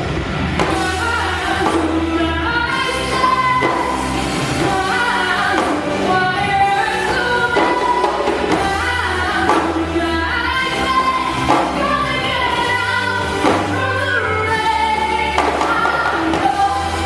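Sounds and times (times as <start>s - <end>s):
backing track with bass line: 0.0s - 17.0s
woman singing pop song: 0.6s - 17.0s.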